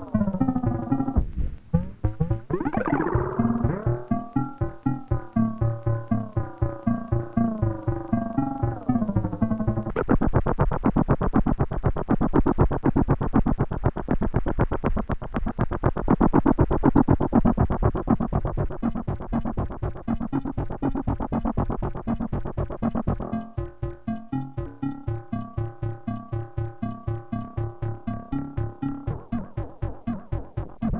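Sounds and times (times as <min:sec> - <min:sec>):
synthesizer sequenced pattern: 0:00.0 - 0:30.9.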